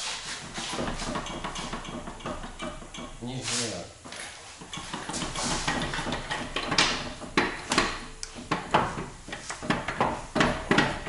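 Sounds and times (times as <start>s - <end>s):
metal scraping: 0.0s - 9.5s
metal knocks and clacks: 0.4s - 3.4s, 4.1s - 11.0s.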